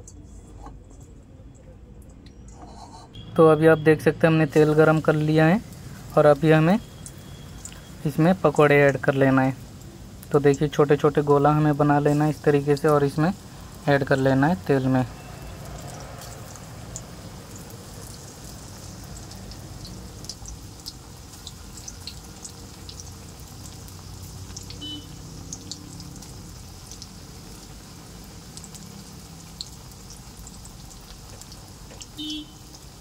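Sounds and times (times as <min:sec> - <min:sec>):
food deep-frying in hot oil: 0:03.1 - 0:33.0.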